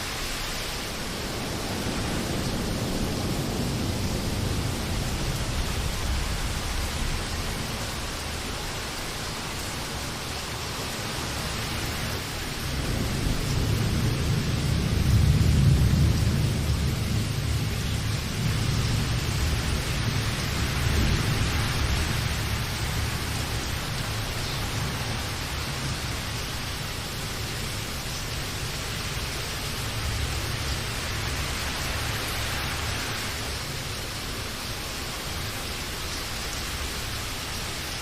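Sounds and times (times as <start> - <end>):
steady rain: 0.0 - 38.0
thunder rumbling: 0.1 - 34.0.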